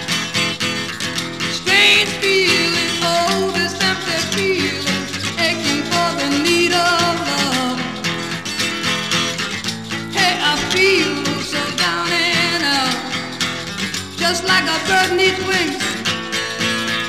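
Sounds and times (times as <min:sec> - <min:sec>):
instrumental music: 0:00.0 - 0:17.0.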